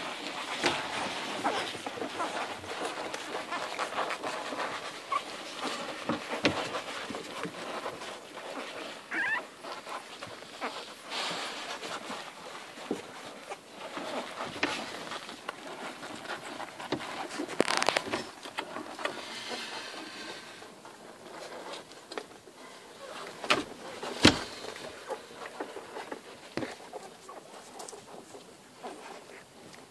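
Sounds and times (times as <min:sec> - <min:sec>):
puppies suckling: 0:00.0 - 0:29.9.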